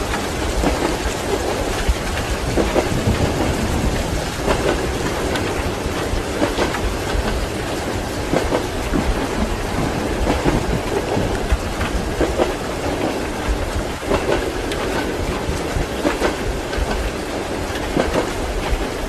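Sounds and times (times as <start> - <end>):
rain hissing: 0.0 - 19.0
train carriage rumbling: 0.0 - 19.0
wheels clacking over rail joints: 0.0 - 19.0.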